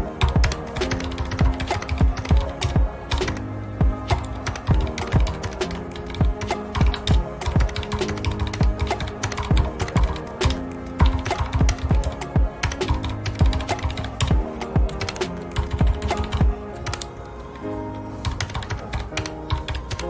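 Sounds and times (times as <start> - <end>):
soft background music: 0.0 - 20.0
mechanical keyboard typing: 0.2 - 3.4, 4.1 - 17.0, 18.2 - 20.0.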